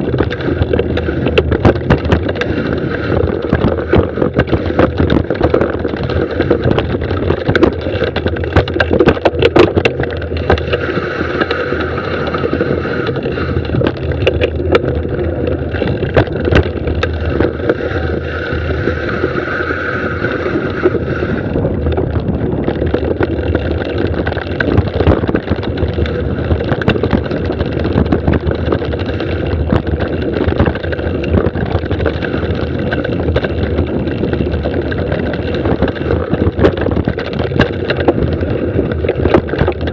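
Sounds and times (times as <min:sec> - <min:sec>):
bike rattling over bumps: 0:00.0 - 0:39.9
bike tyres rolling over rock: 0:00.0 - 0:39.9
wind rushing on microphone: 0:00.0 - 0:39.9.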